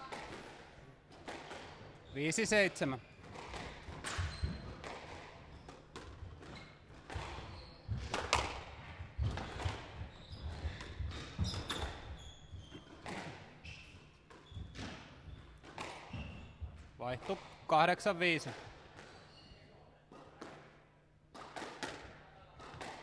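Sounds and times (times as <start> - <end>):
squash ball hitting rackets and walls: 0.0 - 1.9, 3.2 - 17.6, 20.1 - 20.7, 21.3 - 23.0.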